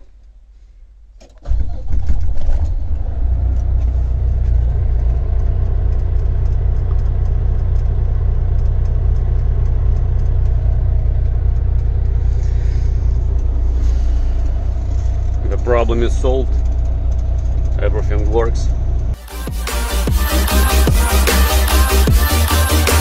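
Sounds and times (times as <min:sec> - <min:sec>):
diesel truck engine idling: 0:02.7 - 0:23.0.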